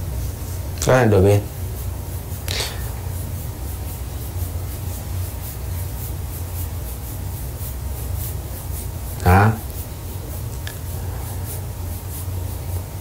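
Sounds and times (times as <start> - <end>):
hands rubbing skin: 0.1 - 13.0.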